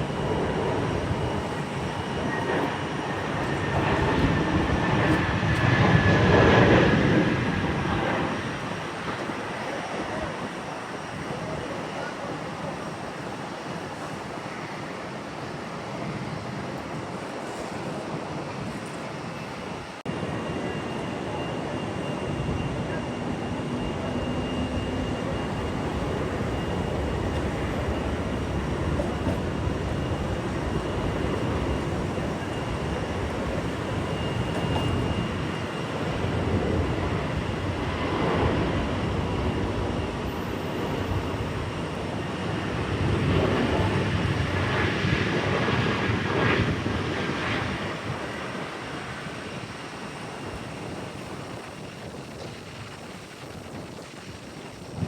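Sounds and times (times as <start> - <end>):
jet airliner engine rumble: 0.0 - 55.0.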